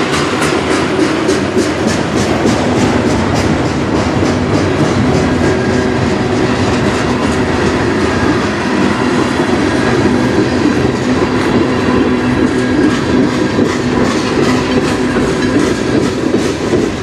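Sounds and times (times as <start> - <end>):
clickety-clack over rail joints: 0.0 - 17.0
steel wheels on rail: 0.0 - 17.0.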